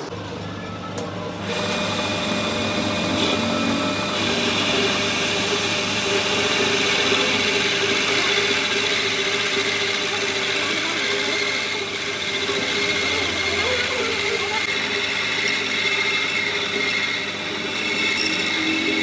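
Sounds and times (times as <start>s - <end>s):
power tool whining: 0.0s - 19.0s.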